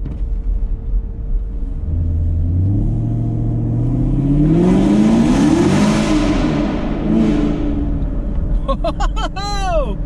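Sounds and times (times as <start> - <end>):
car exhaust accelerating: 0.0 - 9.4
car engine rumble: 0.0 - 10.0.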